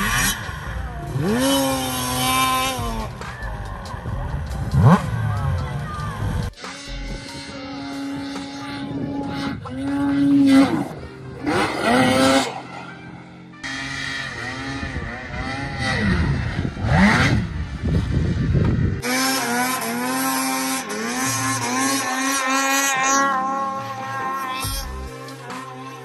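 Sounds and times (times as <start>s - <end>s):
background music: 0.0s - 26.0s
snowmobile engines revving: 0.0s - 26.0s.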